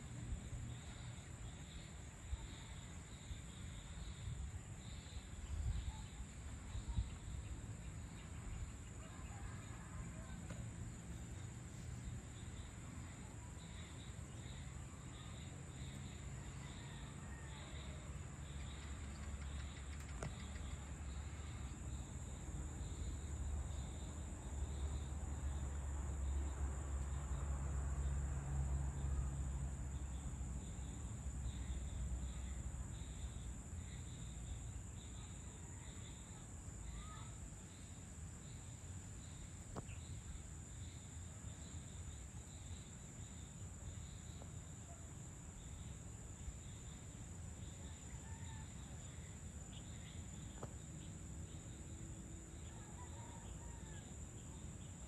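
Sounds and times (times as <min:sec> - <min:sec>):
insect chirp pulsing: 0:00.0 - 0:55.0
insects trilling: 0:00.1 - 0:55.0.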